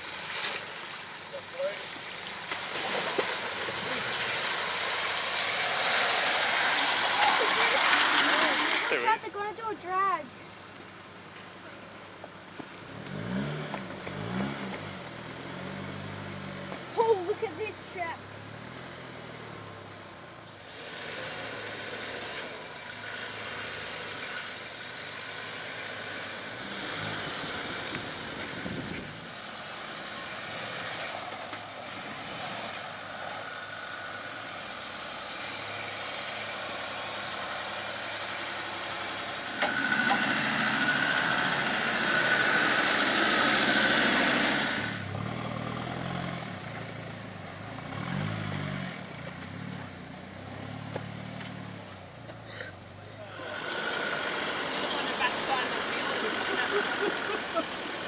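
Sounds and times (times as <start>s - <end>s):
off-road engines under load: 0.0s - 58.0s.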